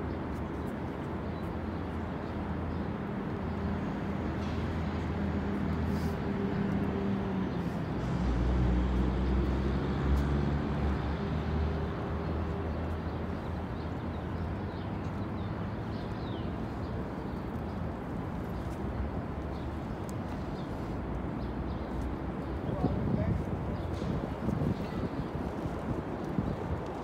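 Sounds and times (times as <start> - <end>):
street noise: 0.0 - 27.0.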